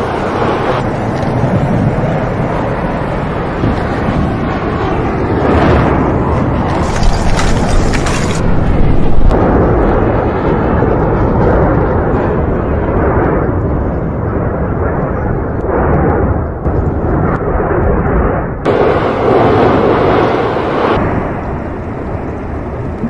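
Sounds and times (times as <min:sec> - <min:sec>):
erupting volcano roar: 0:00.0 - 0:23.0.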